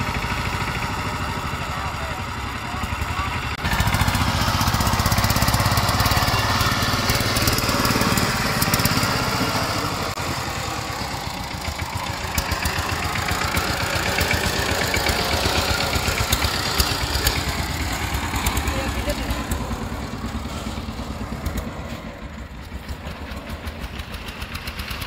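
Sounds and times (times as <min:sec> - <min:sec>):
power tiller engine pulsing: 0:00.0 - 0:25.0.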